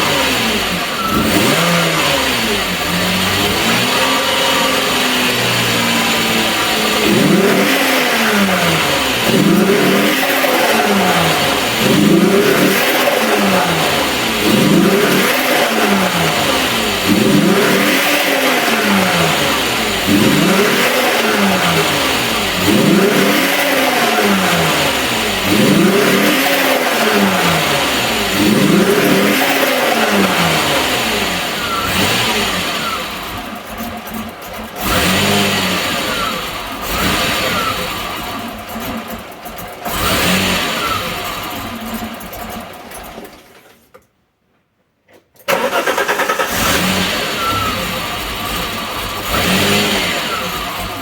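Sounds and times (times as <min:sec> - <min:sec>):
car engine revving and misfiring: 0:00.0 - 0:43.5, 0:45.4 - 0:51.0.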